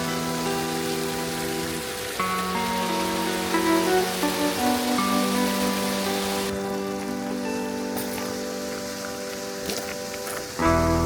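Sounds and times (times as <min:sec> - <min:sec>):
soft music with held notes: 0:00.0 - 0:11.0
waterfall rushing: 0:00.0 - 0:11.0.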